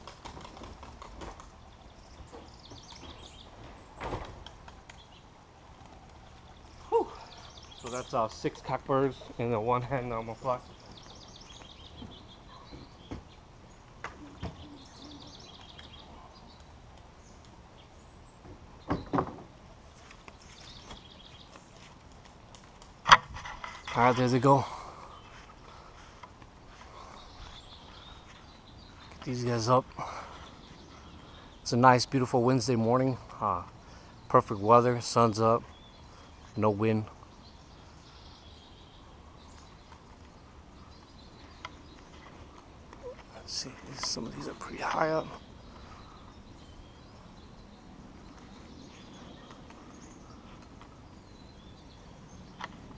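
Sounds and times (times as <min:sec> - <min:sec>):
small birds trilling: 0:00.0 - 0:52.9.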